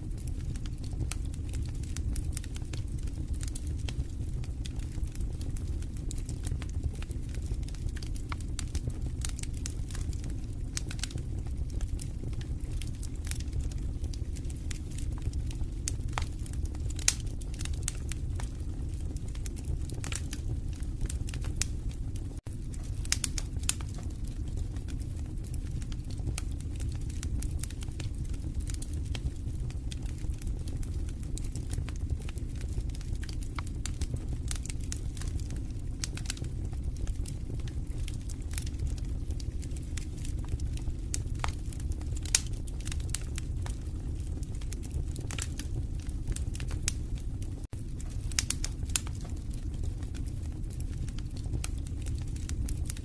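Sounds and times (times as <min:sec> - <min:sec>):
fire pops and snaps: 0:00.0 - 0:53.0
fire rumbling: 0:00.0 - 0:53.0.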